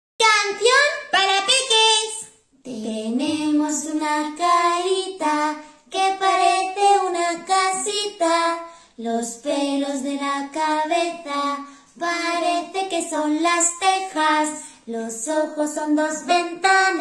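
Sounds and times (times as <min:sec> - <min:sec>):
women singing children's song: 0:00.7 - 0:17.0.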